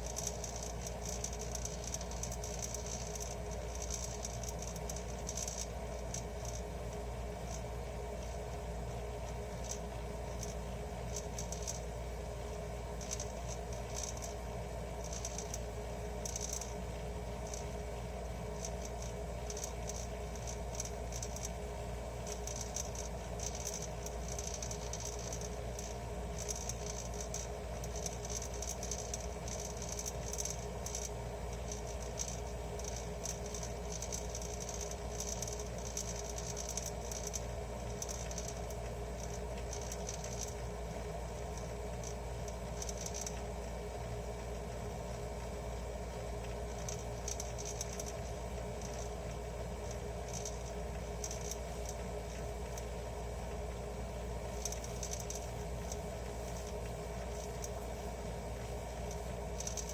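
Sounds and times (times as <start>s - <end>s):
rapid rattling and clicking: 0.0s - 21.6s, 22.2s - 59.9s
dehumidifier humming: 0.0s - 59.9s.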